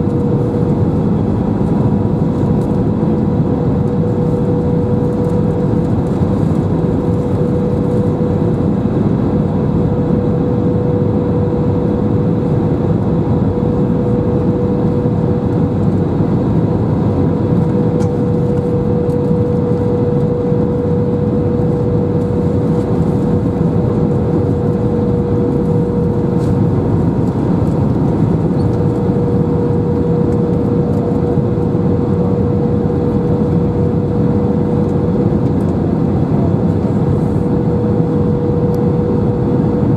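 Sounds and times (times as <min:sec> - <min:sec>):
aircraft engine and airflow rush: 0:00.0 - 0:39.9
steady whine: 0:00.0 - 0:39.9.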